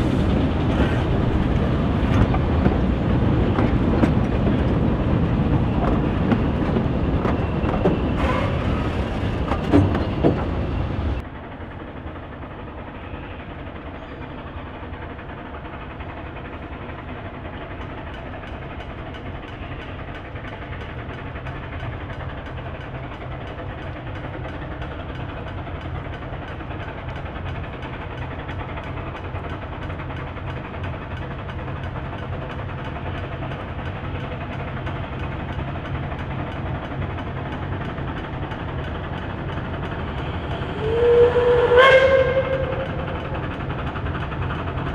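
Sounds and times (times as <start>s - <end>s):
steam train running: 0.0s - 44.9s.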